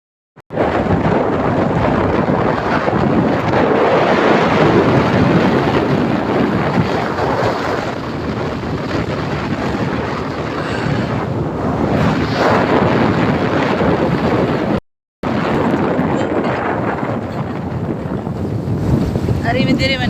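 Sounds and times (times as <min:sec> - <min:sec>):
wind buffeting microphone: 0:00.5 - 0:20.0.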